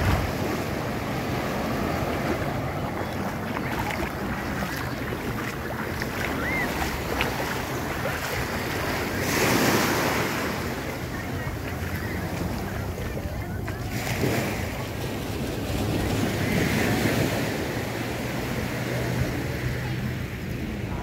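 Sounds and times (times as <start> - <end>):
wind buffeting microphone: 0.0 - 17.7
waves washing onto beach: 0.0 - 21.0.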